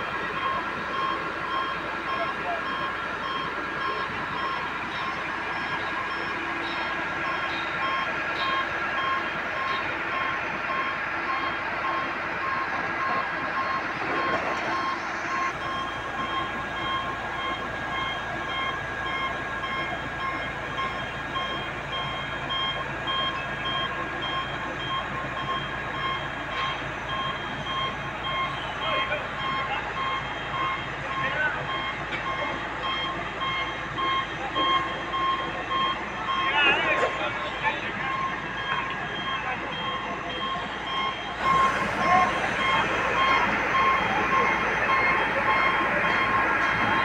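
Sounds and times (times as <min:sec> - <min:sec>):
crane warning beeps: 0:00.0 - 0:47.0
diesel engine and hydraulics running: 0:00.0 - 0:47.0.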